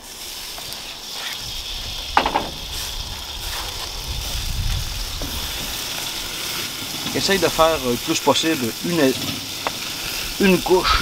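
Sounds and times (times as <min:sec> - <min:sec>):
beans sizzling in oil: 0:00.0 - 0:11.0.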